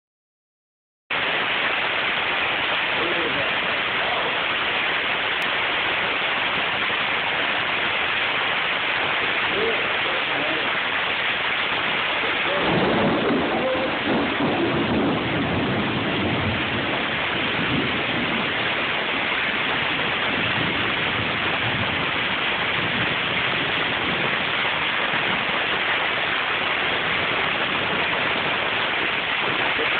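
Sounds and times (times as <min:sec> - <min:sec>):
rain pouring: 0:01.1 - 0:29.9.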